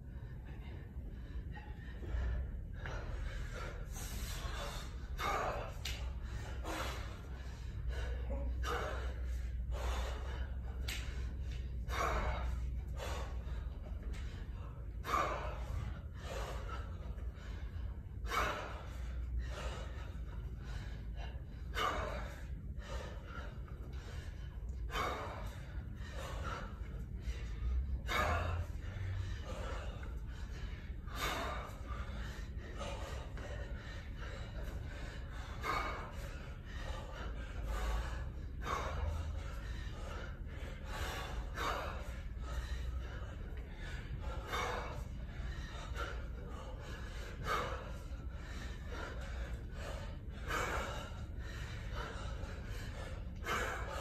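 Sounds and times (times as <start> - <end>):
person breathing hard: 0.0 - 54.0.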